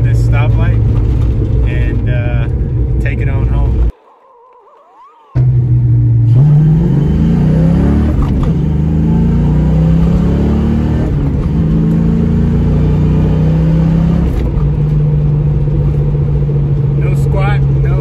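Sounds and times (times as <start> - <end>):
car engine accelerating: 0.0 - 3.9, 5.4 - 18.0.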